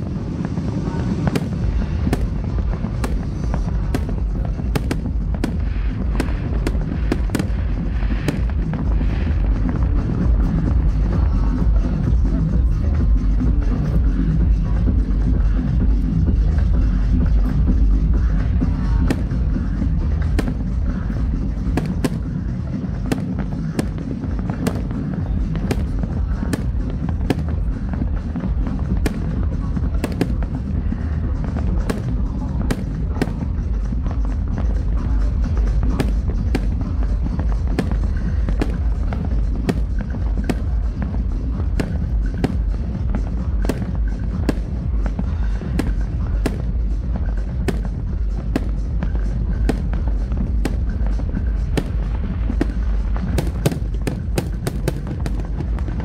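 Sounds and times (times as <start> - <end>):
fireworks bangs and crackles: 0.0 - 56.0
loud music with heavy bass: 0.0 - 56.0.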